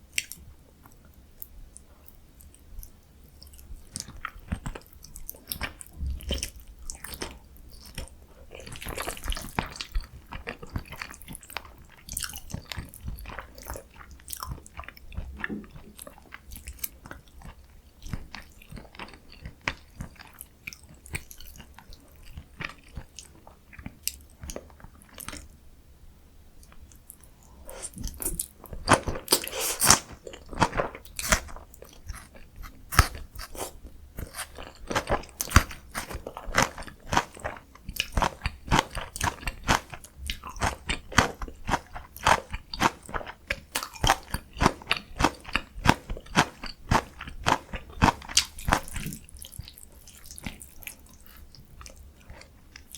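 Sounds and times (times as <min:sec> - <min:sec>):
person chewing food: 0:00.1 - 0:25.5, 0:26.6 - 0:52.9.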